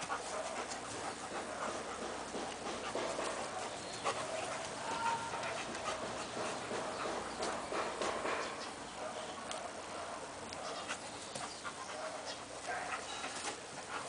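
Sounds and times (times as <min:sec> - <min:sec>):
dogs panting: 0:00.0 - 0:14.0
dogs scuffling: 0:00.0 - 0:14.0.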